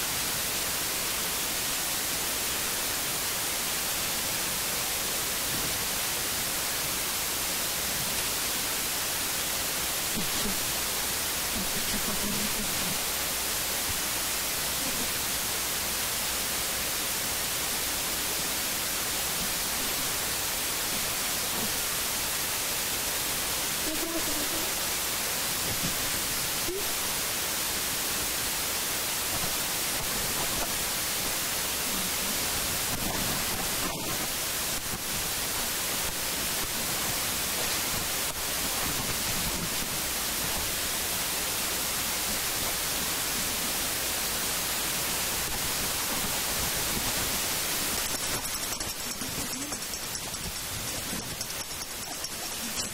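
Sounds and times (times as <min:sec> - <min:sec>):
recording hiss: 0:00.0 - 0:52.9.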